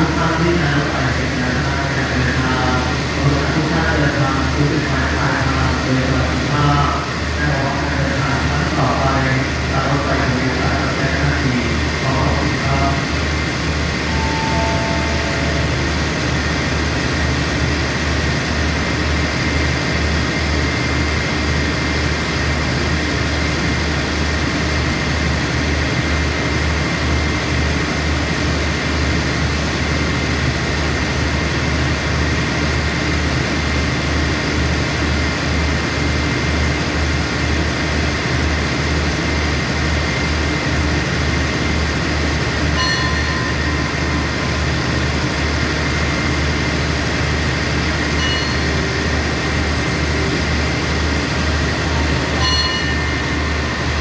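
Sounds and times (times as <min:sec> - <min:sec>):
constant whine: 0:00.0 - 0:26.4, 0:36.7 - 0:54.0
diesel train engines idling: 0:00.0 - 0:54.0.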